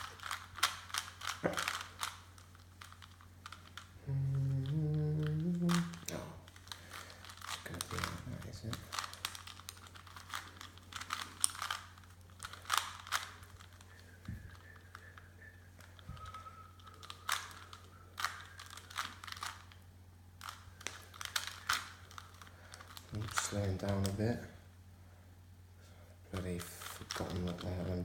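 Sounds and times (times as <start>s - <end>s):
puzzle cube plastic clicks: 0.0s - 24.4s, 26.4s - 28.0s.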